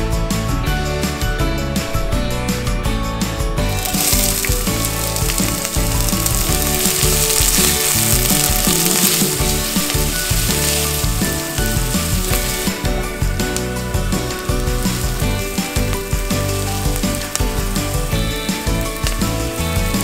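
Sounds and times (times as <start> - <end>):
background music: 0.0 - 20.0
onion sizzling in oil: 3.7 - 20.0.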